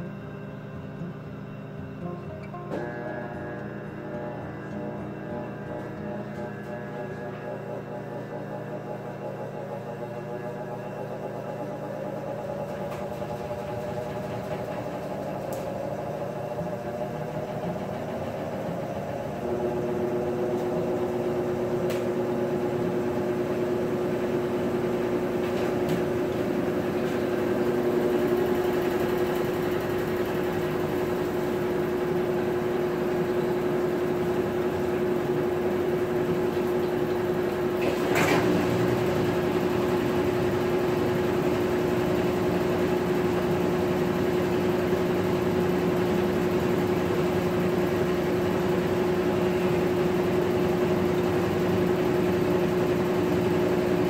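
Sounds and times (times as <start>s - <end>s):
washing machine motor hum: 0.0s - 54.0s.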